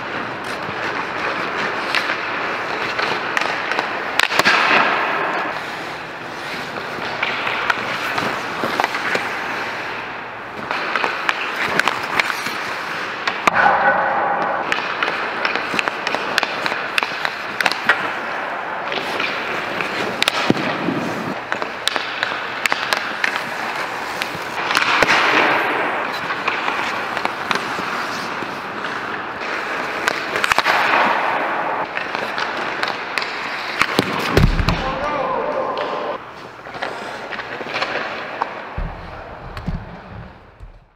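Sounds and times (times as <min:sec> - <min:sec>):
puck striking boards: 0:00.0 - 0:05.7, 0:06.6 - 0:40.9
pucks shot off sticks: 0:00.0 - 0:05.7, 0:06.6 - 0:40.9
skate blades scraping ice: 0:00.0 - 0:13.5, 0:14.4 - 0:40.9.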